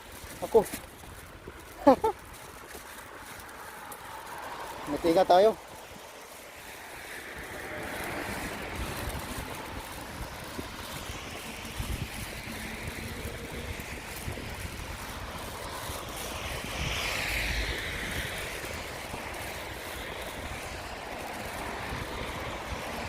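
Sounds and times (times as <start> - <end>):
hiss of passing traffic: 0.0 - 23.0
wind rumbling on microphone: 0.0 - 23.0.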